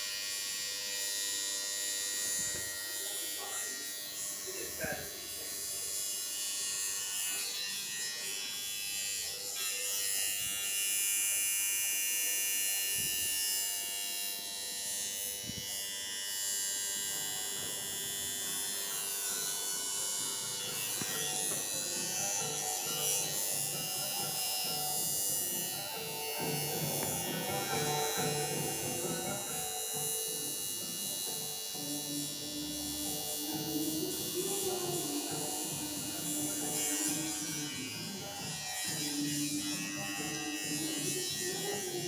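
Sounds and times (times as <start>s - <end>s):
tattoo machine buzzing: 0.0s - 42.0s.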